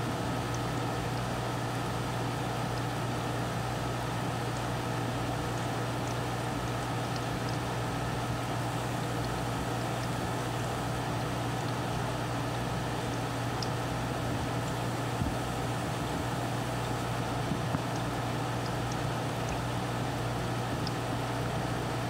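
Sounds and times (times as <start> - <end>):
aquarium filter hum: 0.0 - 22.0.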